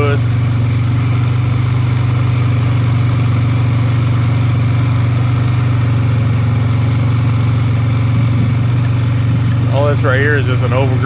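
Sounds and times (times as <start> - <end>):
atv engine low drone: 0.0 - 11.0.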